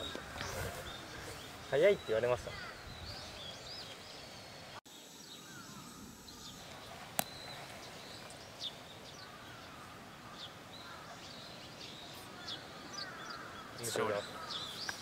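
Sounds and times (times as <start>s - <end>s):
open-air background noise: 0.0s - 15.0s
small birds chirping: 0.0s - 15.0s.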